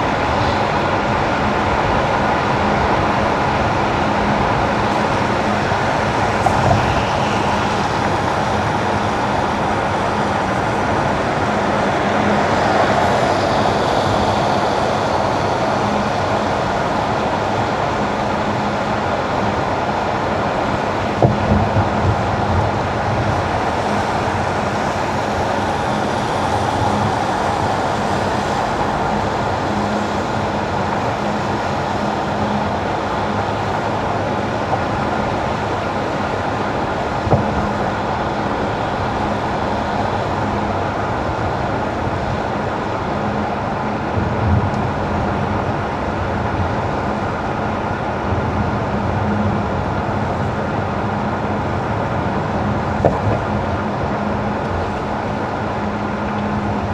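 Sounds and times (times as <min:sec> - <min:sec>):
tyres hissing on wet road: 0:00.0 - 0:56.9.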